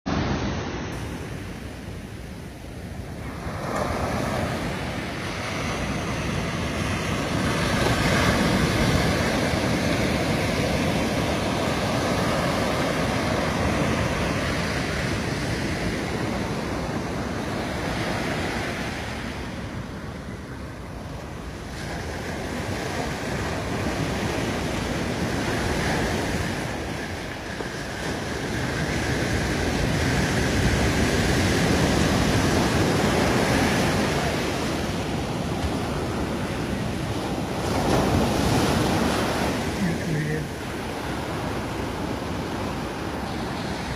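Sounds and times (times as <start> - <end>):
ocean waves breaking on beach: 0.1 - 43.9.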